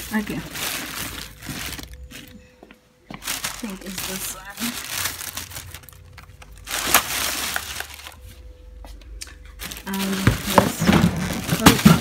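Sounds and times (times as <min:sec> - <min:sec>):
plastic bag rustling and crinkling: 0:00.0 - 0:02.5, 0:03.1 - 0:08.4, 0:09.4 - 0:12.0.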